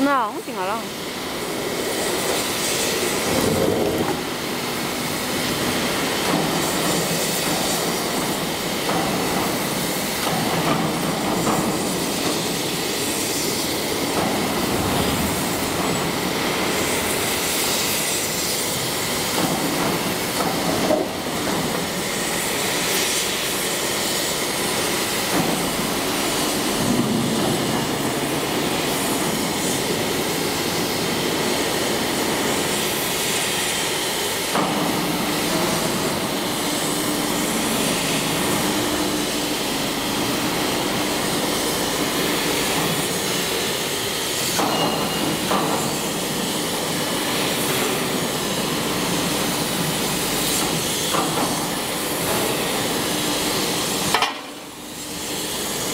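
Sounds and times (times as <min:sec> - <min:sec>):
plate rolling machine running: 0:00.0 - 0:55.9.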